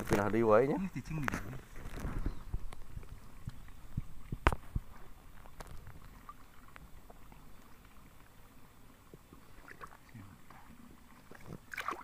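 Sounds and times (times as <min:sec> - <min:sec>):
muddy water sloshing: 0:00.0 - 0:12.0
small splashes and ticks: 0:00.0 - 0:12.0.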